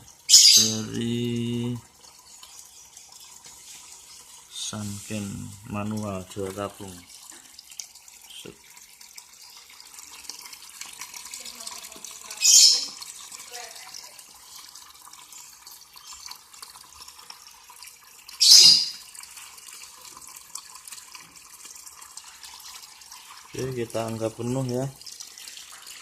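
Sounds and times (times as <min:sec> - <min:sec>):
water running into tub: 0:00.0 - 0:26.0.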